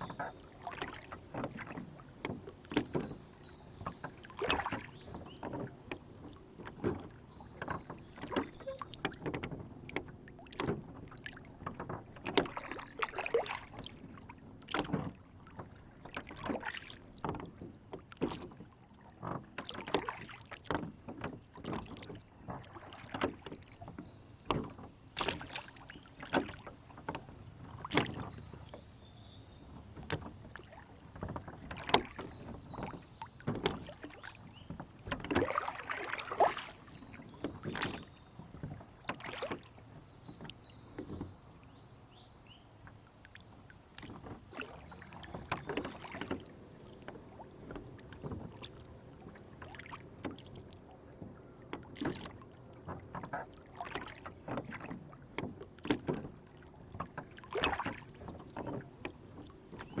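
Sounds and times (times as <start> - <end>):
water lapping against rowboat: 0.0 - 60.0.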